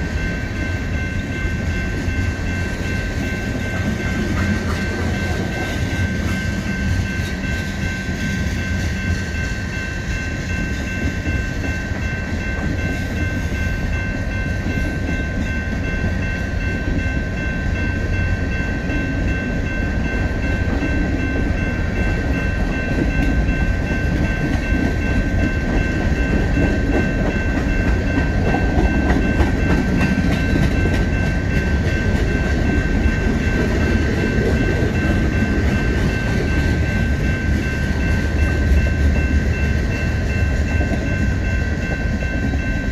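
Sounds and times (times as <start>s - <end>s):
freight train rumbling past: 0.0s - 42.9s
train wheel clatter: 0.0s - 42.9s.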